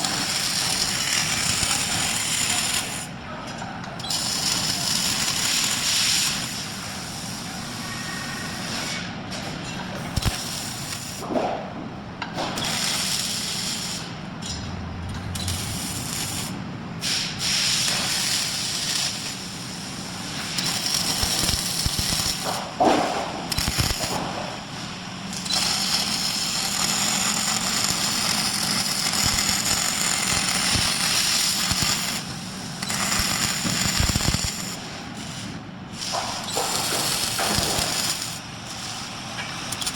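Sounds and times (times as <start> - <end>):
welding arc crackling and hissing: 0.0 - 3.1, 4.0 - 8.9, 10.0 - 11.3, 12.6 - 14.2, 15.0 - 39.9.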